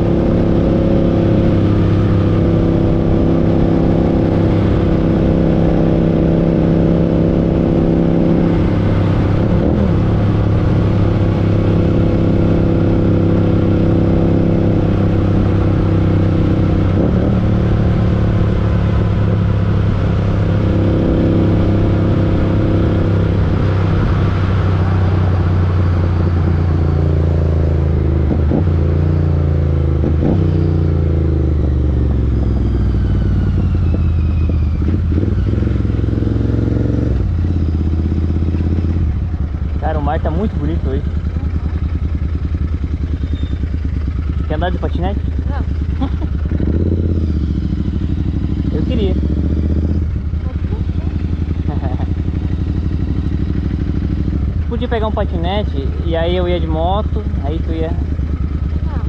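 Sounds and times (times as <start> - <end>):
motorcycle engines cruising: 0.0 - 59.0.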